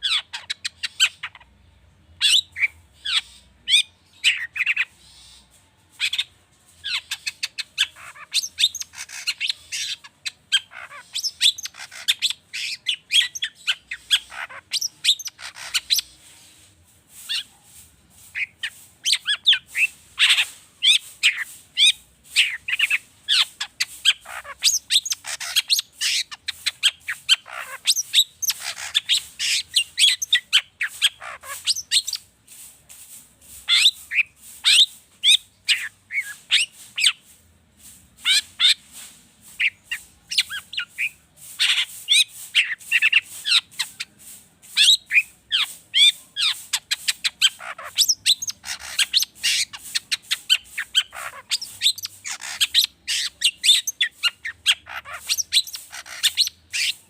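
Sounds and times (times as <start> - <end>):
shrike singing varied song: 0.0 - 57.0.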